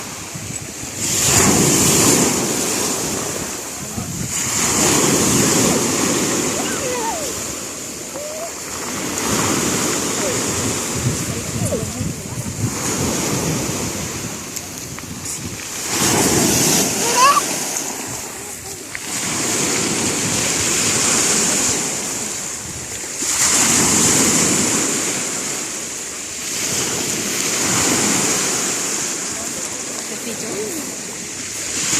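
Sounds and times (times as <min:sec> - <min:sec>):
wind buffeting microphone: 0:00.0 - 0:25.6
sea waves washing in: 0:00.0 - 0:31.9.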